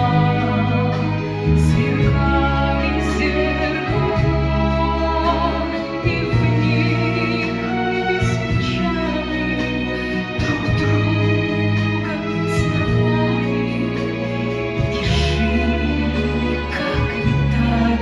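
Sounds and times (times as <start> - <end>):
accompaniment with deep bass: 0.0 - 18.0
woman singing: 0.0 - 18.0.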